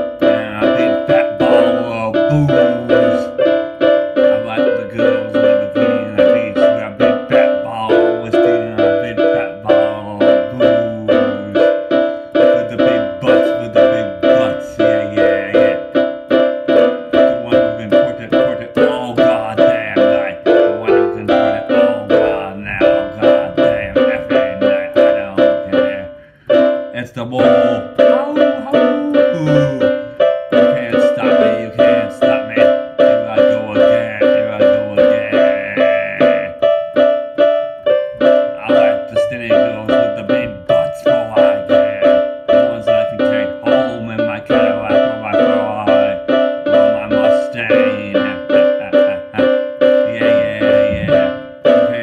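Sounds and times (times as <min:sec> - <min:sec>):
instrumental keyboard backing music: 0:00.0 - 0:52.0.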